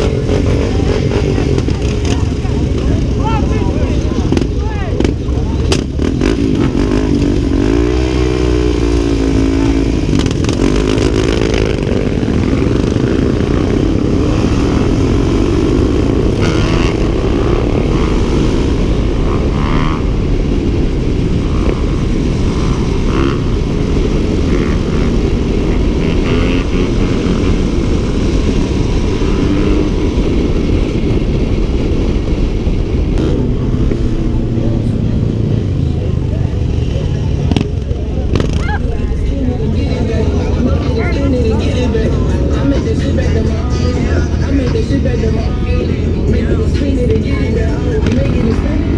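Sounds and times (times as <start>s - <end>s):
dirt bike engine revving: 0.0s - 31.4s, 33.1s - 48.9s
wind rumble on microphone: 0.0s - 48.9s.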